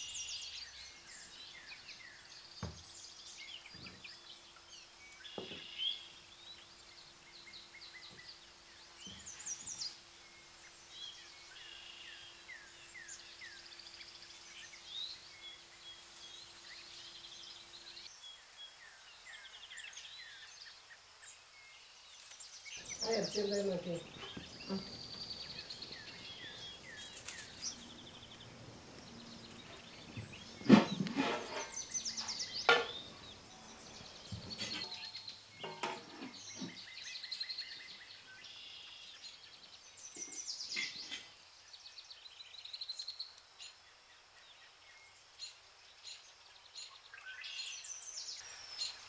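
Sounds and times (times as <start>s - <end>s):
birds chirping and trilling: 0.0s - 49.0s.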